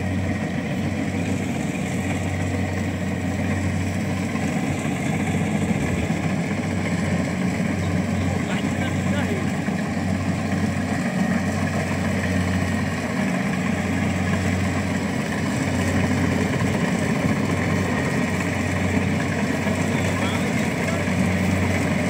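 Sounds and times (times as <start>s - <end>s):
harvester engine humming: 0.0s - 22.0s.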